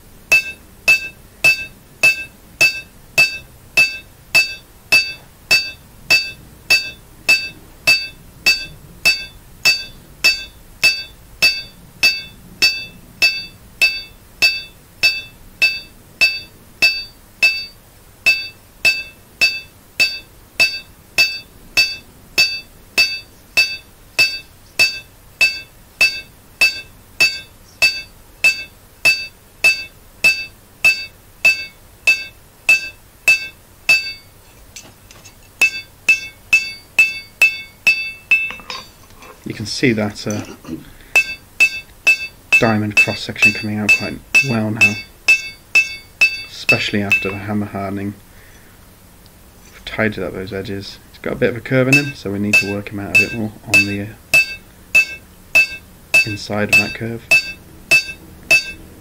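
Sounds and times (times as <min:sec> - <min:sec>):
hammer striking blade on anvil: 0:00.3 - 0:38.9, 0:41.2 - 0:47.4, 0:51.9 - 0:58.8.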